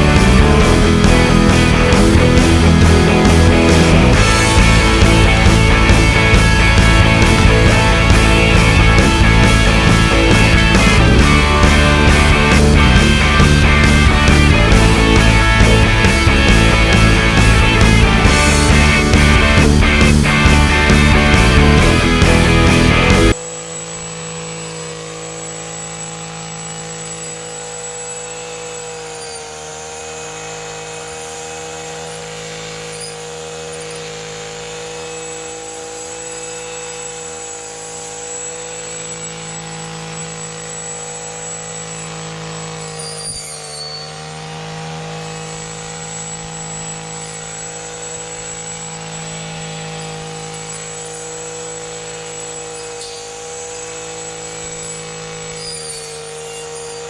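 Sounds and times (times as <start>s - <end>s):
engine running at high speed: 0.0s - 57.0s.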